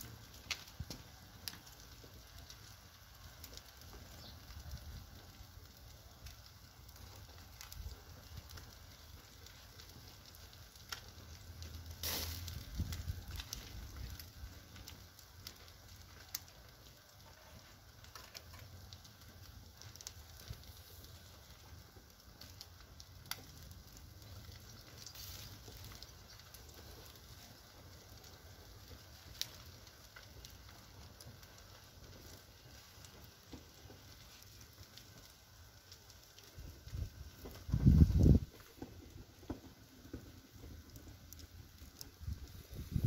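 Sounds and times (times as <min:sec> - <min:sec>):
firewood crackling and popping: 0:00.0 - 0:43.0.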